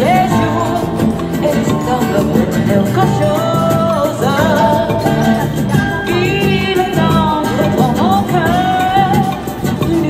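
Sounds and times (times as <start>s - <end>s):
person singing melody over beat: 0.0s - 10.0s.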